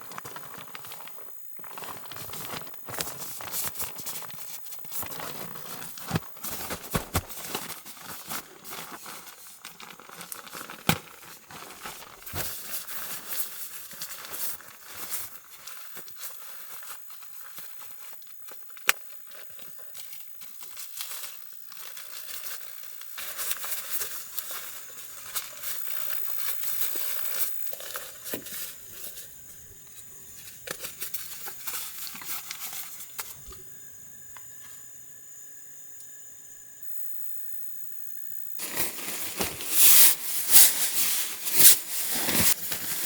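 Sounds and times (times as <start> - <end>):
crinkling and rustling: 0.0 - 33.6, 38.6 - 43.0.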